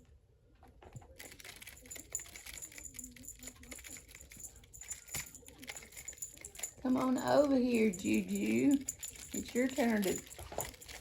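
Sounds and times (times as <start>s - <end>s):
light clicking and rattling: 0.7s - 11.0s.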